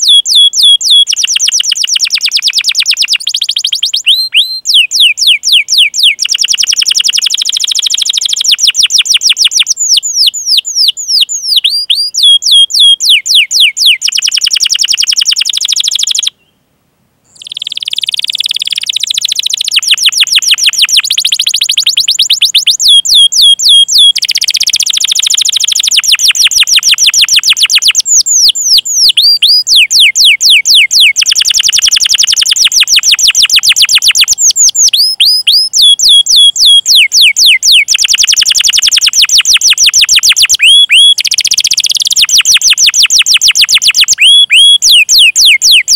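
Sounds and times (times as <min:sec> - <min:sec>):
canary chirps and trills: 0:00.0 - 0:16.5, 0:17.3 - 0:45.9.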